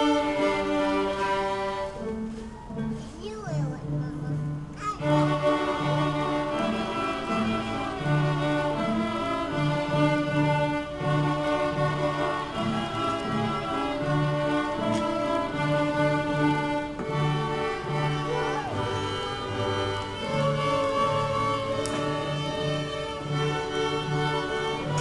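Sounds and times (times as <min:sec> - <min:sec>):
string ensemble playing: 0:00.0 - 0:25.0.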